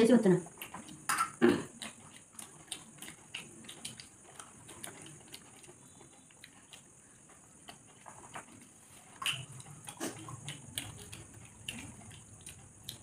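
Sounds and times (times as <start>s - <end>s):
wet chewing and mouth smacking: 0.4s - 13.0s.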